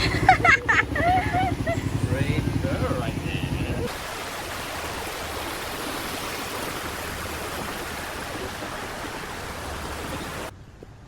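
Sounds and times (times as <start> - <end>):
rushing water: 0.0 - 10.6.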